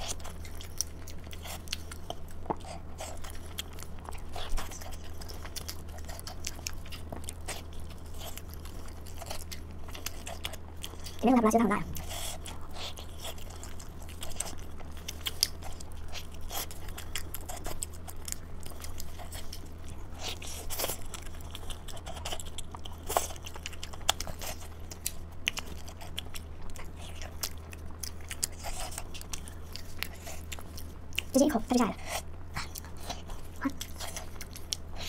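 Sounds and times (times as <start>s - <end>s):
chewing crunchy food: 0.0s - 35.0s
steady low hum: 0.0s - 35.0s.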